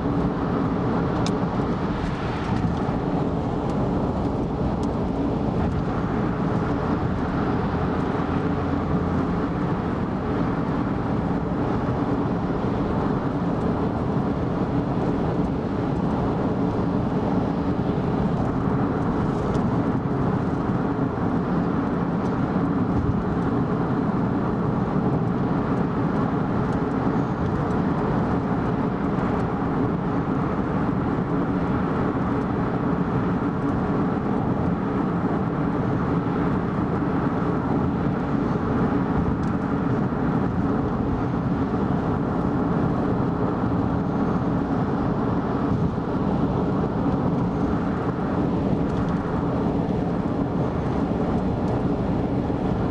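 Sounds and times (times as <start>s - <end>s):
car tyre and engine drone: 0.0s - 52.9s.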